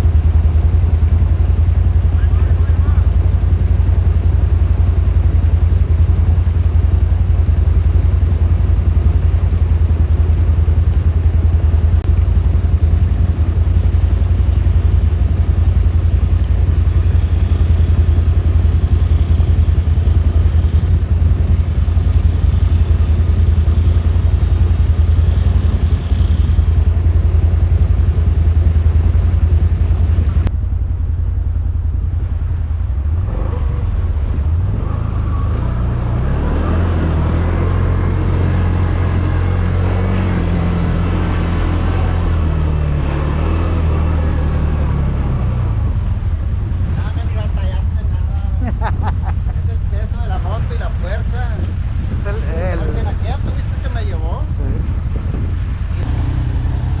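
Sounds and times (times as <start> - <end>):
atv engine running: 0.0 - 30.5, 33.2 - 57.0.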